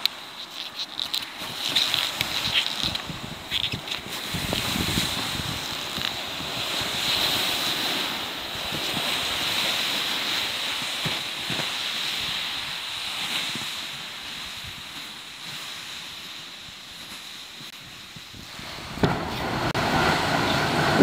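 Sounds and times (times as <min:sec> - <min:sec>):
sleds scraping over snow: 0:00.0 - 0:21.0.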